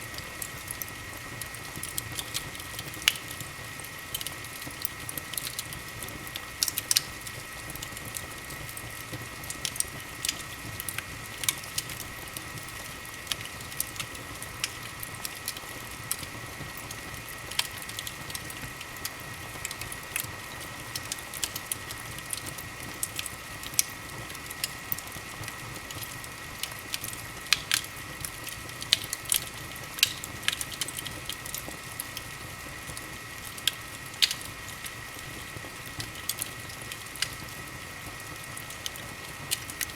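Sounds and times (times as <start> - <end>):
steady fire hiss: 0.0 - 39.9
wood fire crackling and popping: 0.0 - 39.9.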